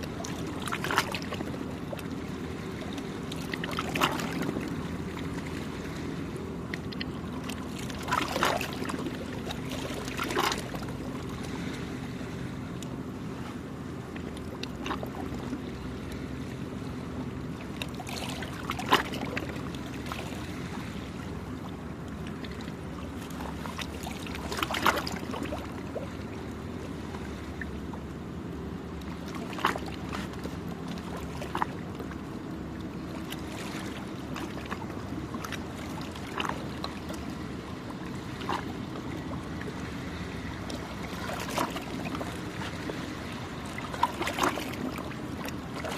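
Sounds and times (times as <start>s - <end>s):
water slapping or splashing: 0.0s - 28.2s, 28.9s - 45.9s
low engine drone: 0.0s - 45.9s
small waves lapping shore: 0.0s - 45.9s.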